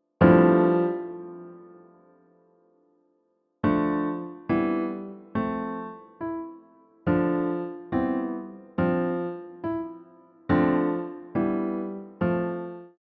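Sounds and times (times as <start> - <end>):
piano-like keyboard chords: 0.0 - 2.5, 3.6 - 13.0.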